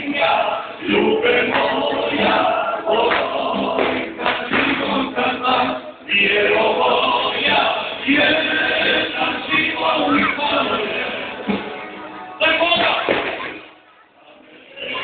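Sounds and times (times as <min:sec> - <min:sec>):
loud music with group singing: 0:00.0 - 0:15.0.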